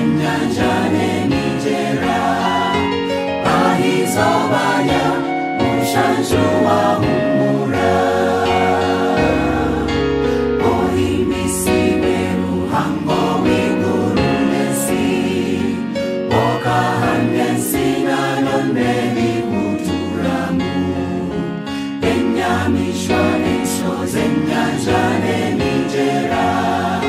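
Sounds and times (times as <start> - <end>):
mixed choir singing gospel: 0.0 - 27.0.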